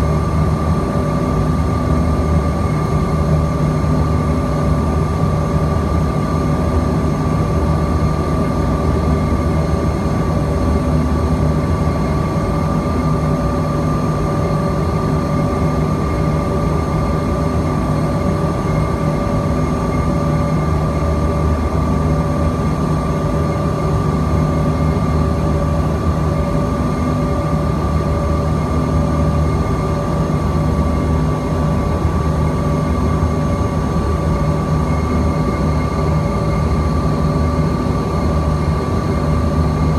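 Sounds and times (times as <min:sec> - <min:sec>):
constant whine: 0:00.0 - 0:39.9
jet engines and airflow rushing: 0:00.0 - 0:39.9.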